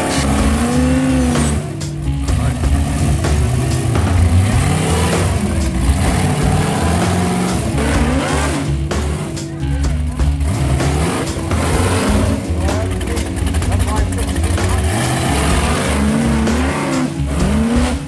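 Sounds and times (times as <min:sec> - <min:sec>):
music with bass line: 0:00.0 - 0:18.0
truck engine revving: 0:00.0 - 0:18.0.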